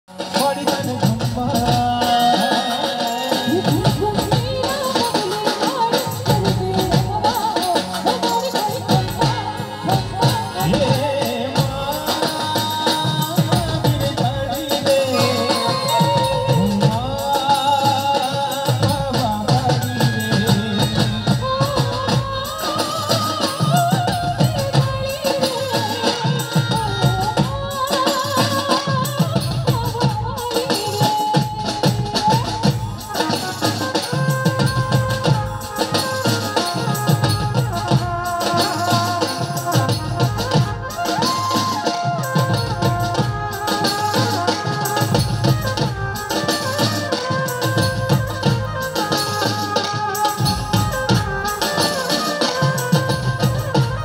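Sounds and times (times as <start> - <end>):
drums with pitch-bending strokes: 0.1 - 54.0
folk song over loudspeakers: 0.1 - 54.0
jingling percussion: 0.1 - 54.0.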